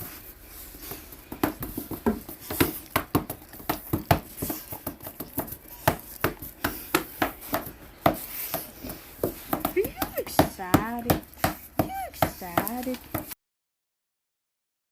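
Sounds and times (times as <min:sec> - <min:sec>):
dog claws tapping on hard floor: 0:01.3 - 0:13.4.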